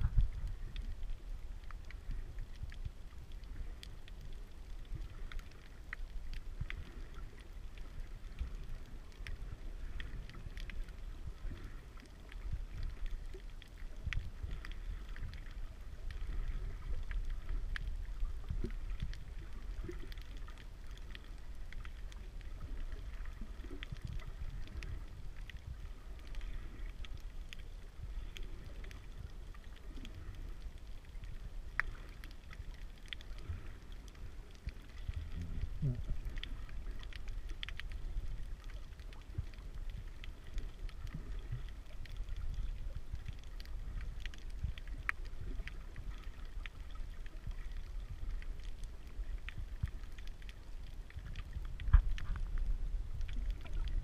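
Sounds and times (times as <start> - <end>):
faint clicks and crackles: 0.0 - 54.0
underwater rumble of moving water: 0.0 - 54.0.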